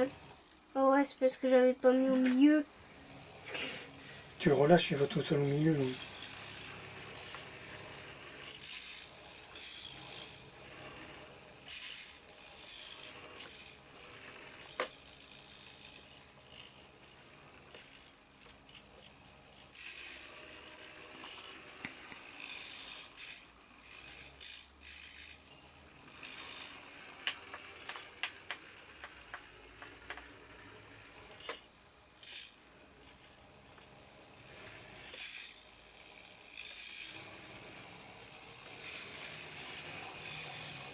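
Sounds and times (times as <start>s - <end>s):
tiny electric motors whirring: 0.0s - 40.9s
small clicks and rattles: 5.1s - 25.4s, 26.1s - 40.9s.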